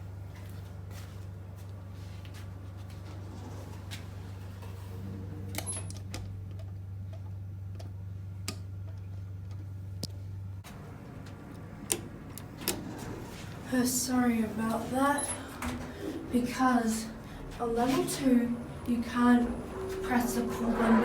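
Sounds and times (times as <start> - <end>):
lift drive hum: 3.0 - 21.0.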